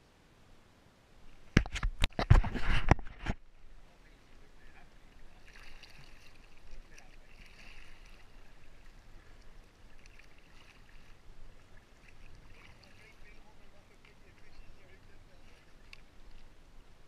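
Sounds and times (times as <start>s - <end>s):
paddle swishing water: 1.3s - 17.0s.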